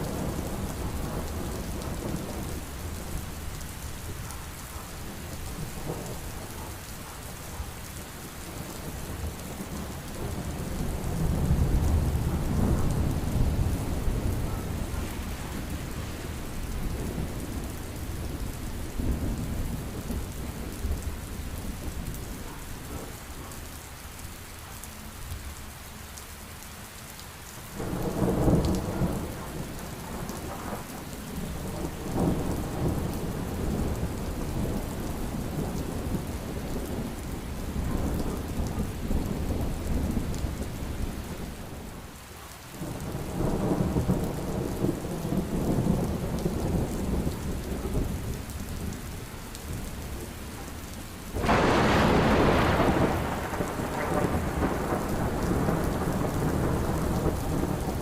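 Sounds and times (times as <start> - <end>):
thunder rumbling: 0.0 - 23.5, 27.8 - 42.0, 42.8 - 49.0, 51.3 - 58.0
heavy rain: 0.0 - 58.0.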